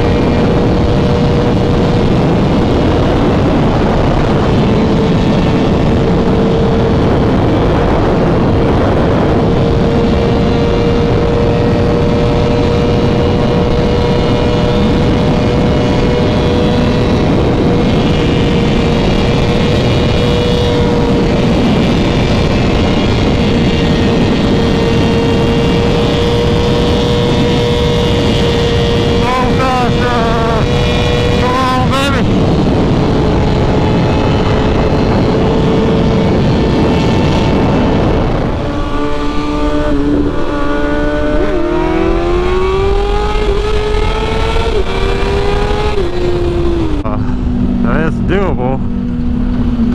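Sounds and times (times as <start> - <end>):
motorcycle engine: 0.0 - 49.9
wind noise: 0.0 - 49.9.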